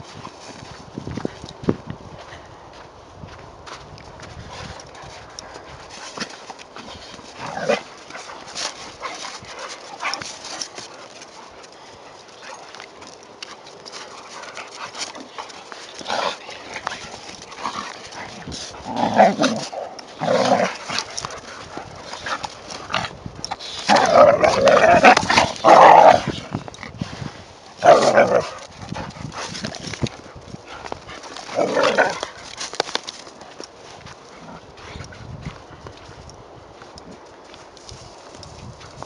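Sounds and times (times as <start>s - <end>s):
paws scuffling in snow: 0.0s - 39.0s.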